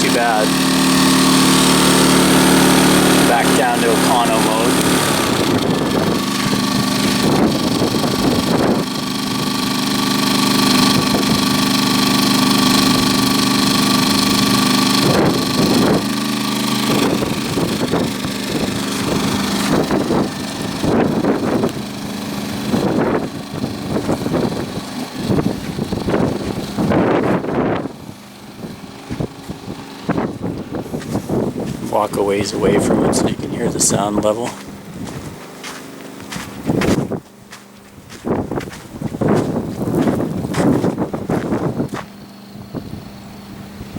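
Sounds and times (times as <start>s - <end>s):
generator engine humming: 0.0s - 43.9s.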